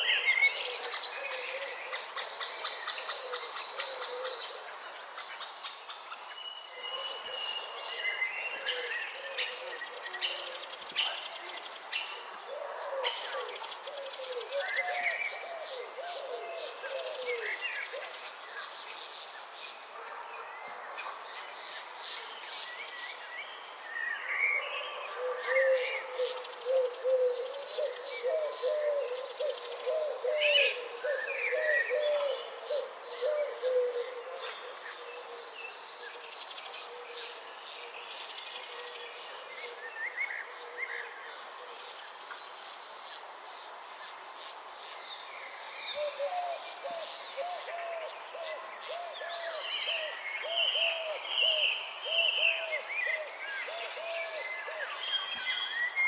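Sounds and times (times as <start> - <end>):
insect buzzing drone: 0.0 - 13.9, 21.3 - 56.0.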